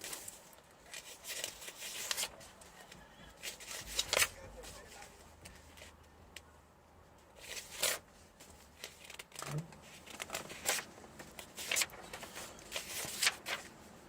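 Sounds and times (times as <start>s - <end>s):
bible pages rustling: 0.0s - 6.1s, 7.3s - 14.0s.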